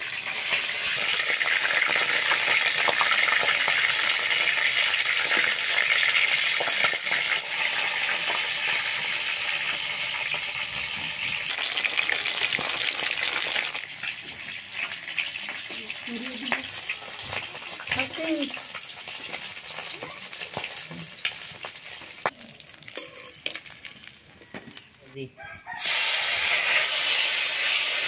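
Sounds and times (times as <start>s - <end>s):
fish sizzling in hot oil: 0.0s - 24.9s, 25.8s - 28.0s.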